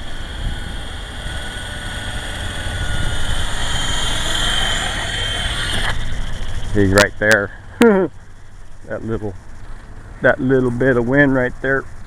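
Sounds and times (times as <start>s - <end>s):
low wind rumble: 0.0s - 12.0s
toy helicopter rotors whining: 0.0s - 12.0s.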